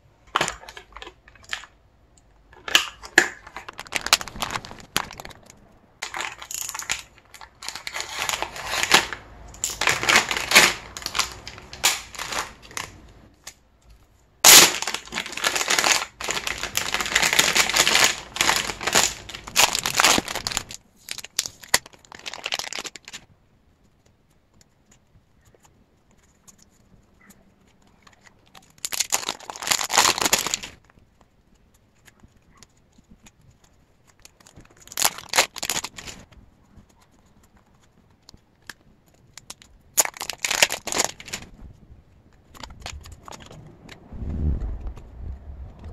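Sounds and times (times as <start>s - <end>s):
sharp plastic crack: 0.2s - 23.3s, 24.0s - 45.9s
plastic packaging crinkling: 0.3s - 23.3s, 27.6s - 44.1s.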